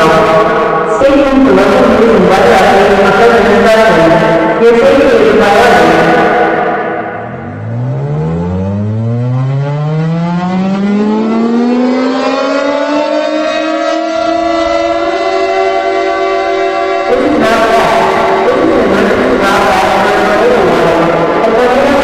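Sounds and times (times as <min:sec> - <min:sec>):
civil defense siren wailing: 0:00.0 - 0:22.0
fuller sound: 0:00.0 - 0:22.0.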